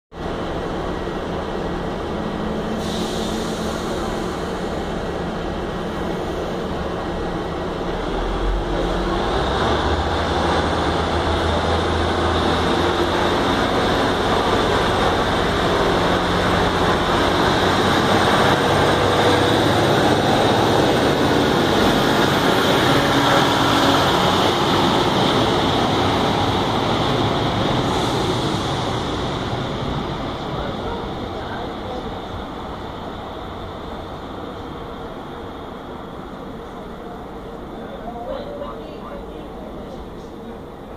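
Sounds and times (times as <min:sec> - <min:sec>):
diesel train engines: 0:00.2 - 0:40.9.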